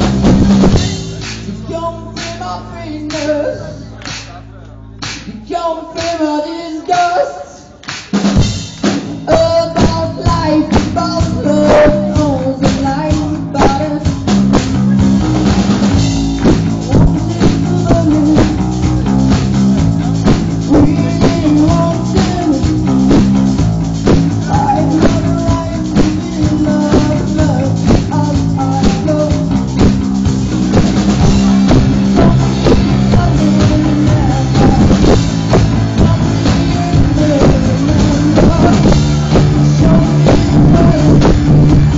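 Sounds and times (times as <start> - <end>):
drum kit beat: 0.0 - 41.9
rock band playing live: 0.0 - 41.9
electric guitars: 7.8 - 41.9.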